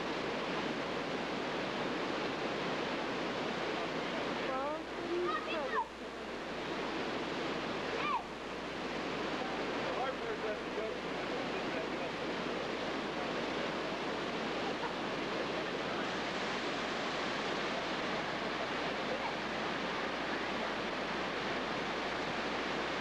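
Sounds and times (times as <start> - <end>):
waterfall and river rapids rushing: 0.0 - 23.0.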